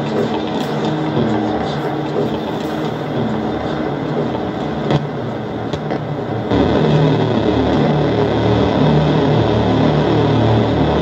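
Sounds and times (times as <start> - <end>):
distorted noise music with drones: 0.0 - 11.0.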